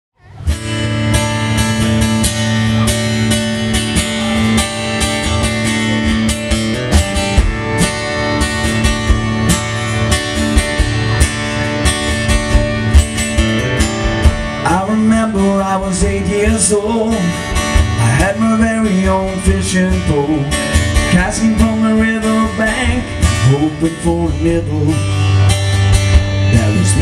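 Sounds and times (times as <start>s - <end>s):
drums: 0.2s - 27.0s
strummed acoustic guitar: 0.2s - 27.0s.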